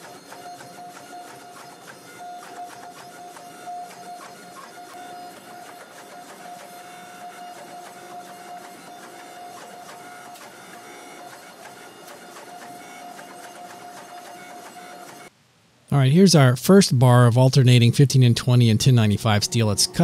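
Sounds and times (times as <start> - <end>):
hydraulic pump whine: 0.0 - 15.3, 18.2 - 20.0.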